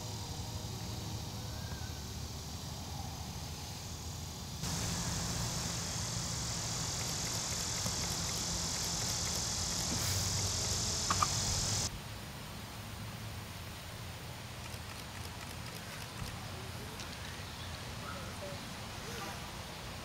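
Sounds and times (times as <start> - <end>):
outdoor hiss with low hum: 0.0 - 20.0.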